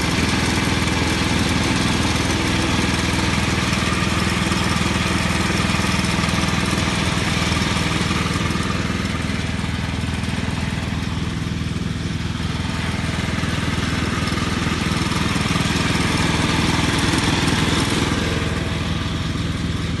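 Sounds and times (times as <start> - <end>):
small engine running steadily: 0.0 - 20.0.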